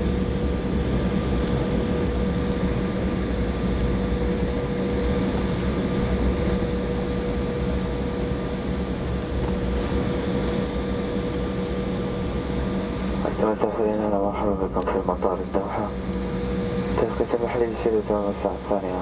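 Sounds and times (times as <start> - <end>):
jet engines idling in cabin: 0.0 - 19.0.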